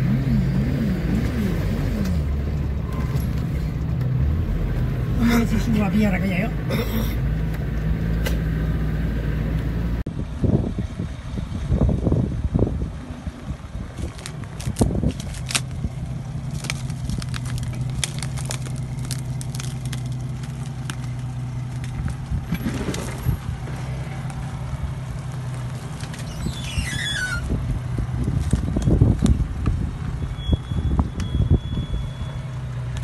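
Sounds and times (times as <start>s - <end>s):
car engine running at low revs: 0.0s - 33.0s.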